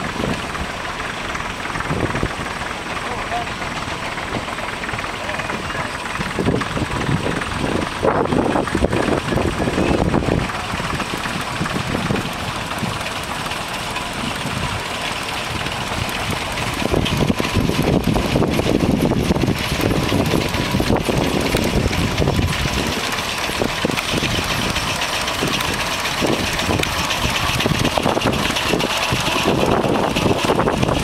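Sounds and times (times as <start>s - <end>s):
model steam engine clattering: 0.0s - 31.0s.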